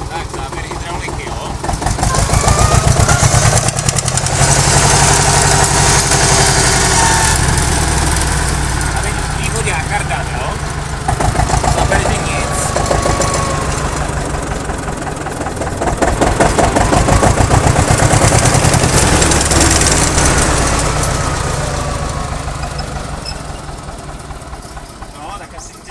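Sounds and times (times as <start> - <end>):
tractor diesel engine chugging: 0.0 - 25.9.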